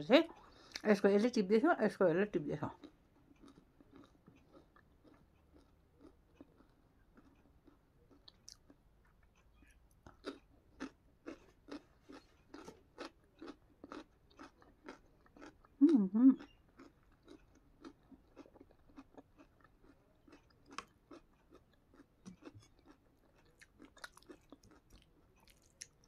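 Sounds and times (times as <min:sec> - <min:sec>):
chewing mouth clicks and smacks: 0:02.8 - 0:15.8, 0:16.4 - 0:26.0.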